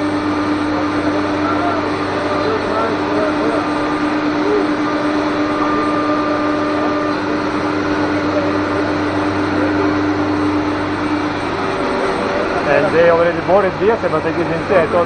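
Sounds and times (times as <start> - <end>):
router whine: 0.0 - 15.0.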